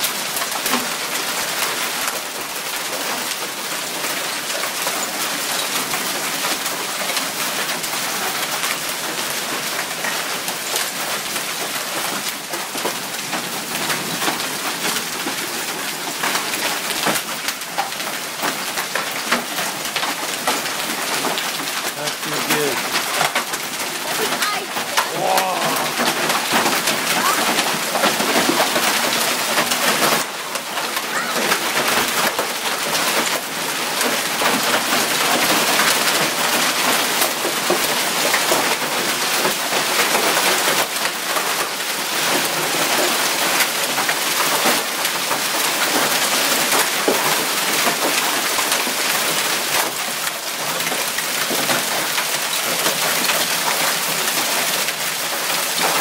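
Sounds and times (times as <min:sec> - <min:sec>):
freezing rain pattering: 0:00.0 - 0:56.0.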